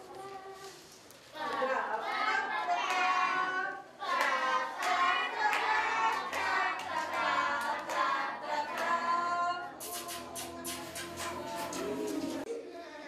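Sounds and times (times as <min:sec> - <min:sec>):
high-pitched voices singing wordlessly: 0:00.0 - 0:12.5.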